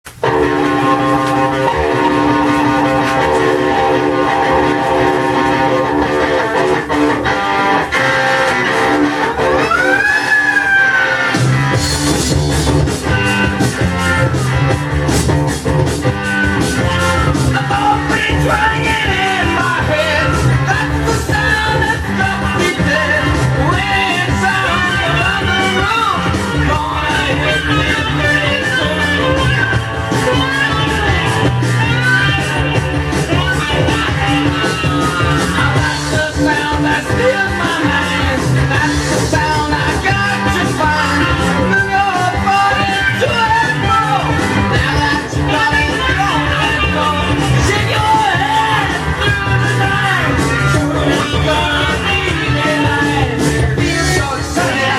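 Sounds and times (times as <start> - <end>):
bass and drums: 0.0 - 54.9
blues rock band playing: 0.0 - 54.9
electric guitar wail: 0.1 - 54.9.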